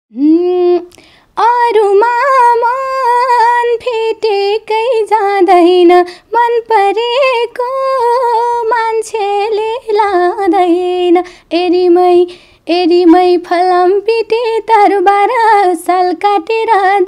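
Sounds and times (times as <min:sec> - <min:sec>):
woman singing unaccompanied: 0:00.1 - 0:17.0.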